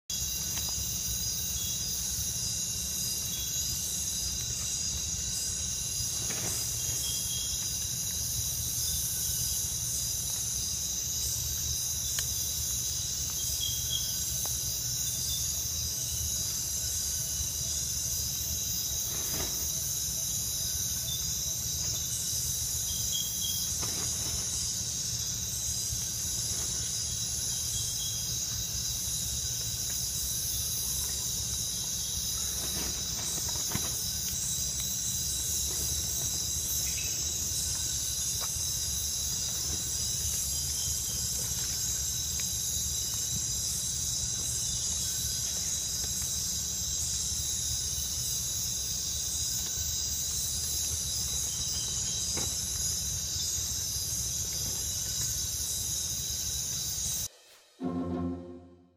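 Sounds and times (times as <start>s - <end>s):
crickets chirping: 0.0s - 58.9s.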